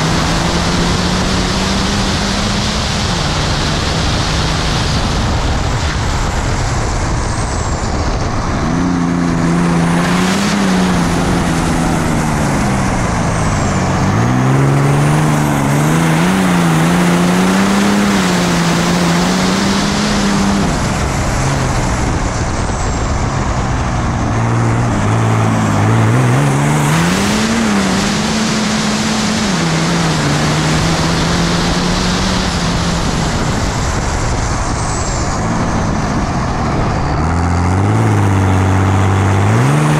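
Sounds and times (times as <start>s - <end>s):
diesel engine pulling hard: 0.0s - 39.9s.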